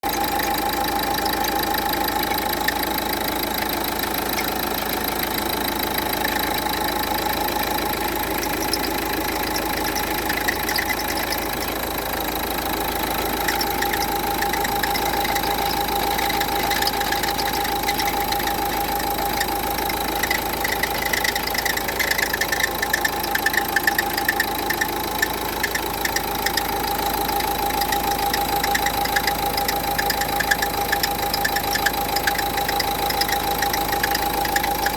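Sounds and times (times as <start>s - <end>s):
diesel engine idling: 0.0s - 34.9s
fast even rattle: 0.3s - 34.9s.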